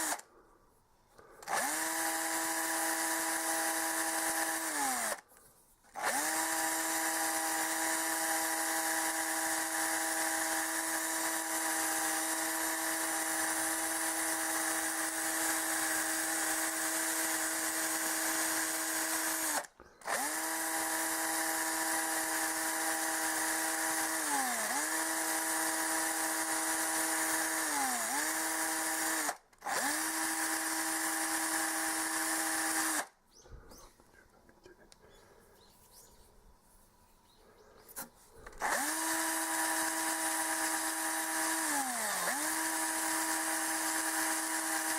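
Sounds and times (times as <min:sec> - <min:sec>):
power tool whining: 0:00.0 - 0:00.4, 0:01.2 - 0:05.3, 0:05.9 - 0:33.2, 0:37.9 - 0:44.9.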